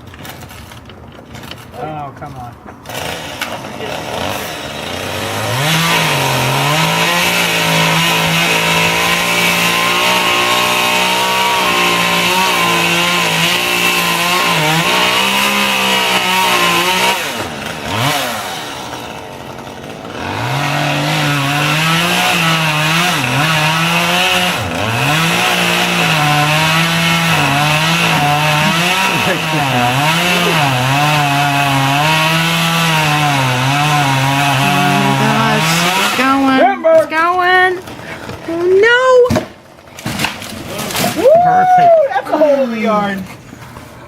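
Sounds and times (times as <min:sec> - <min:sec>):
chainsaw cutting tree: 0:02.7 - 0:44.0.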